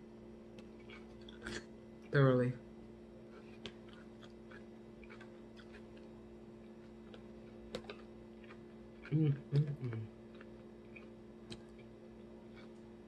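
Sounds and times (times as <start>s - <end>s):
low steady hum: 0.0s - 13.0s
chewing salad: 0.6s - 2.1s, 3.2s - 13.0s.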